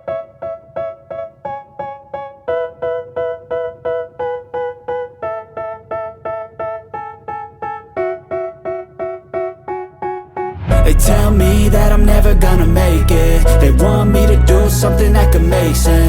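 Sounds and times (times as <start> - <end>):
keyboard playing repeated chords: 0.0 - 16.0.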